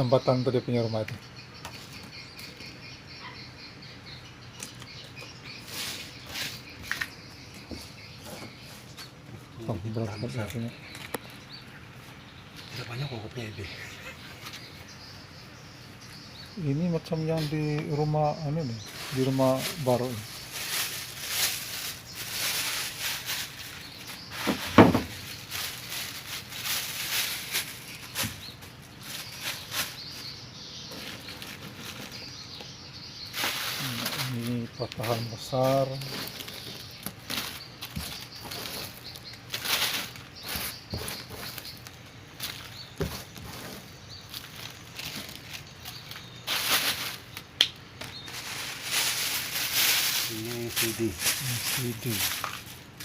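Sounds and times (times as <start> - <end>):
dry nests rustling and clicking: 0.0 - 53.0.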